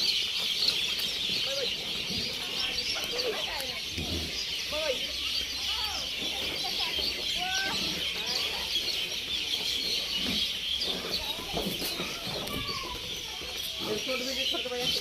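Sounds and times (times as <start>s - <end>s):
hens clucking: 0.0s - 15.0s
small birds chirping: 0.0s - 15.0s.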